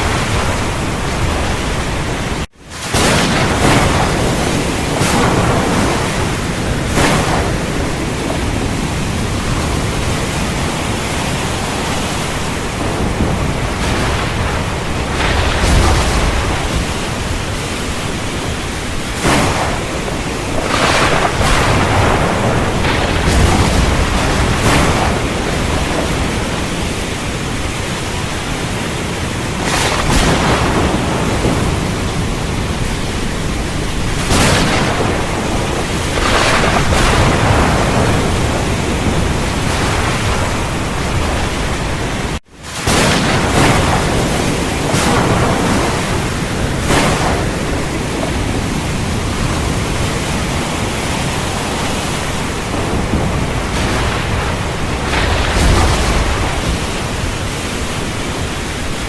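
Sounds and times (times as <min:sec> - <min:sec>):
heavy rain pouring: 0:00.0 - 0:59.0
thunder cracks and rumbles: 0:00.0 - 0:59.0.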